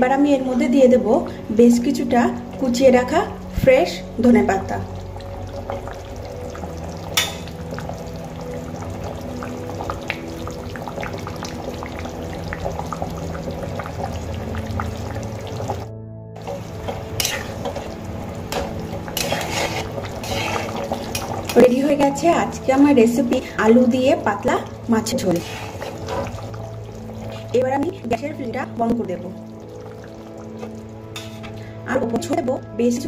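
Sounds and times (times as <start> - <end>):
background music sustained notes: 0.0 - 33.0
curry bubbling and crackling: 0.5 - 32.6.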